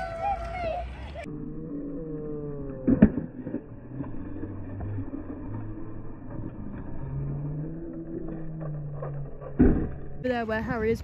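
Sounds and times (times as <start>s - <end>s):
scooter wheels scraping and rolling: 0.0s - 11.0s.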